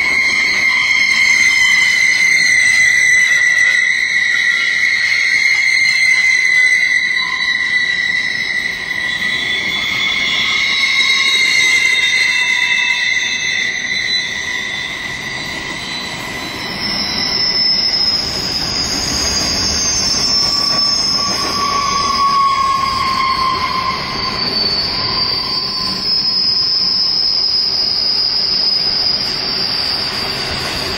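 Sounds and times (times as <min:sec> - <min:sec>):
train wheels rumbling on rails: 0:00.0 - 0:30.9
train wheels squealing: 0:00.0 - 0:30.9.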